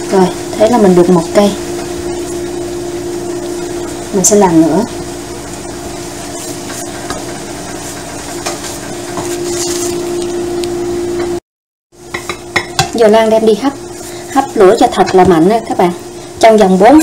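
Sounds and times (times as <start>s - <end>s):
steady motor hum: 0.0s - 11.4s, 12.1s - 17.0s.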